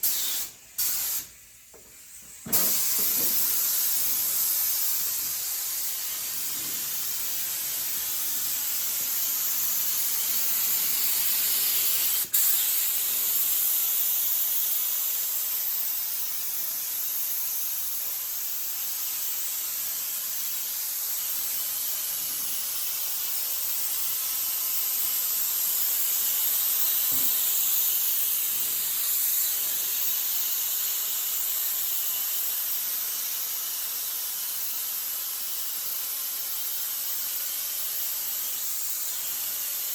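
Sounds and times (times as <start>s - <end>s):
spray gun hissing: 0.0s - 39.9s.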